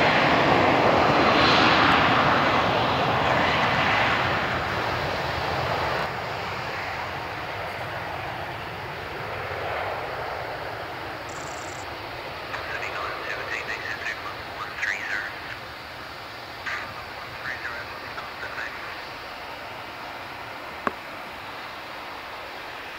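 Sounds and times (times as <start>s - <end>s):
jet engines at takeoff: 0.0s - 22.9s.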